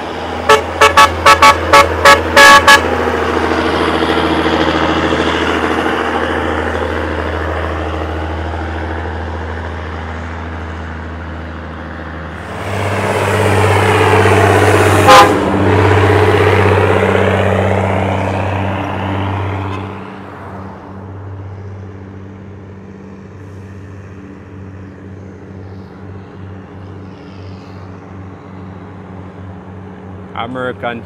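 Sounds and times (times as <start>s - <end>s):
truck diesel engine labouring: 0.0s - 31.0s.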